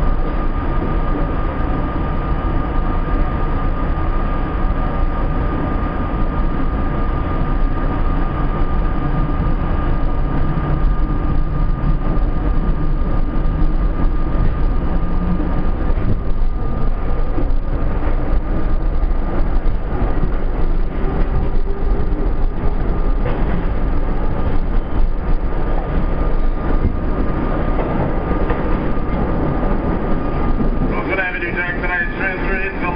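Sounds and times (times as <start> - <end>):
high whine: 0.0 - 32.9
subway train wheels rumbling: 0.0 - 32.9.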